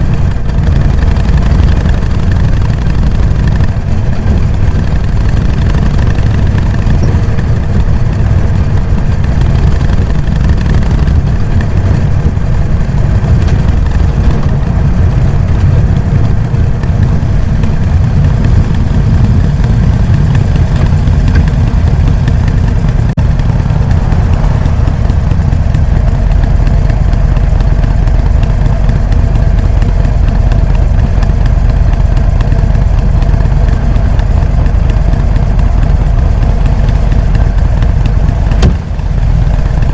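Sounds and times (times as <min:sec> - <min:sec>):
motorcycle engine low beat: 0:00.0 - 0:39.9.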